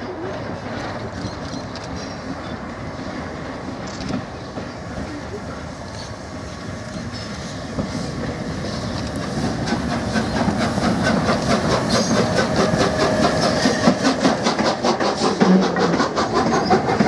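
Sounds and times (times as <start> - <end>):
steam locomotive passing: 0.0 - 17.0.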